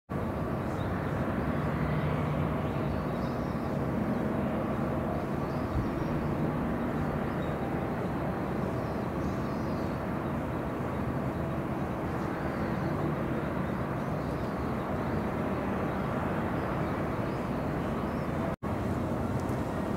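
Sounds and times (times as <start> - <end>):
distant ship engines droning: 0.1 - 19.9.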